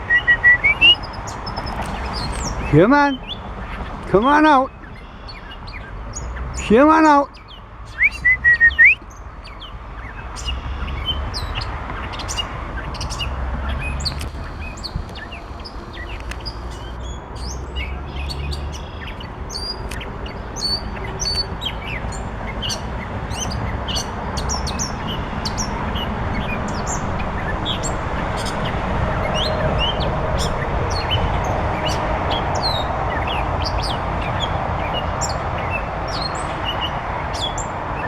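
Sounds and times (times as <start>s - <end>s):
mockingbird singing: 0.0s - 37.7s.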